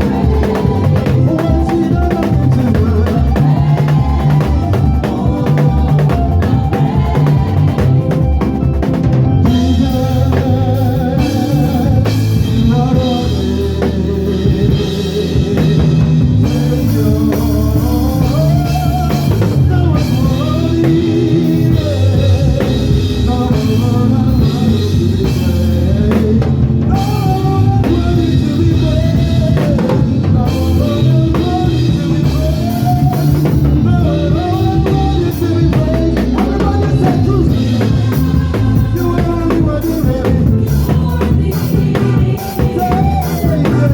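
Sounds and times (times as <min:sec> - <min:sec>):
gospel band music: 0:00.0 - 0:43.9.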